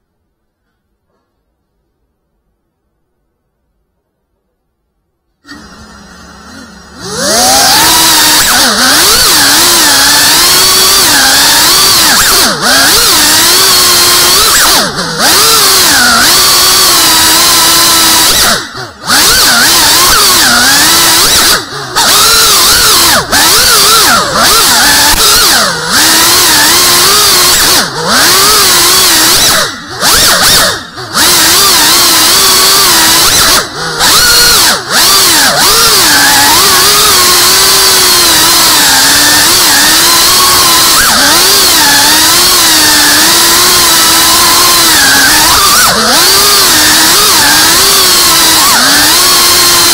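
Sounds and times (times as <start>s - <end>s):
quadcopter motors whining: 5.4s - 49.9s.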